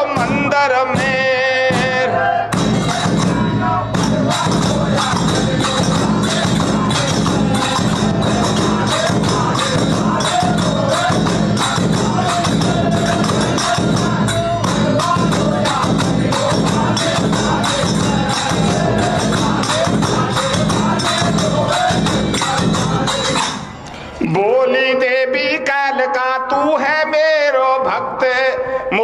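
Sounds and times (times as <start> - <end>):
jingling hand percussion: 0.0 - 24.2.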